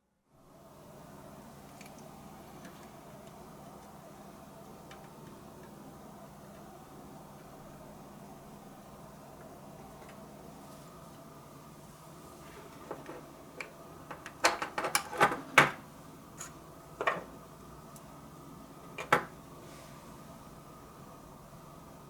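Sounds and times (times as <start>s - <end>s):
steady hum: 0.2s - 22.0s.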